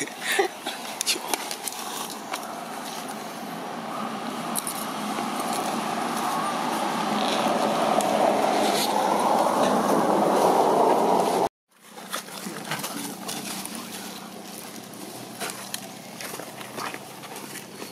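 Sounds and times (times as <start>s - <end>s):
road vehicle passing: 0.8s - 11.5s, 12.3s - 17.9s.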